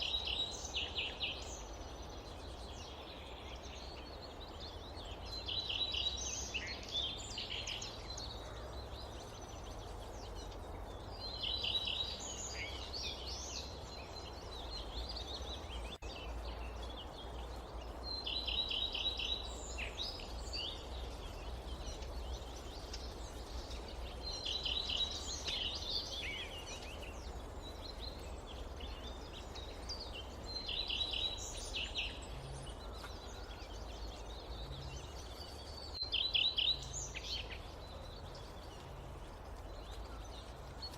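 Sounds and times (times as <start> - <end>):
low forest ambience rumble: 0.0 - 40.9
songbird singing: 0.0 - 40.9.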